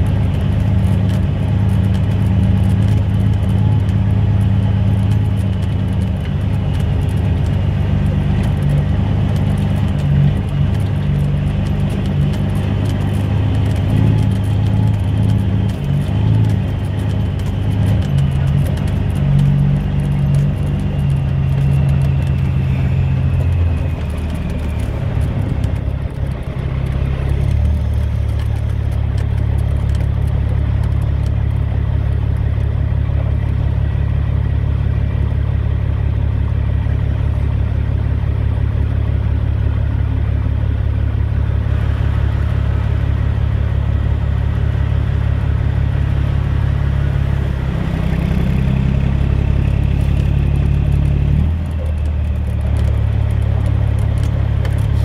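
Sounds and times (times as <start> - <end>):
diesel truck engine droning: 0.0 - 55.0.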